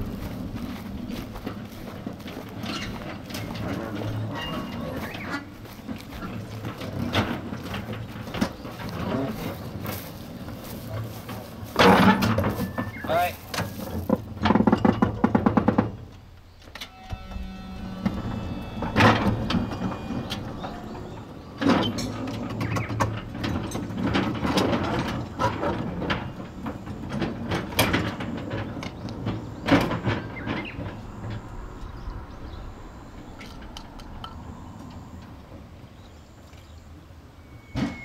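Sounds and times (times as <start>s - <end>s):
small train rumbling on track: 0.0s - 38.0s.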